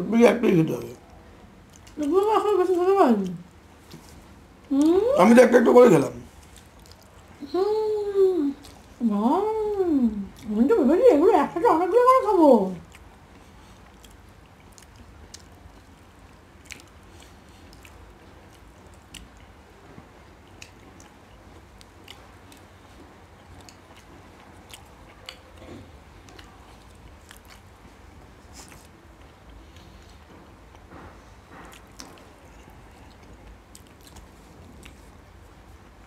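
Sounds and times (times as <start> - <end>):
low room hum: 0.0 - 36.0
people quietly chewing: 0.3 - 36.0.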